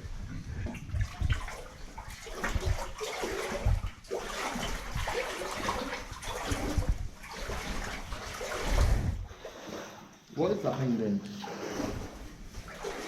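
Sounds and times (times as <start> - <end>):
boots wading through water: 0.0 - 13.0.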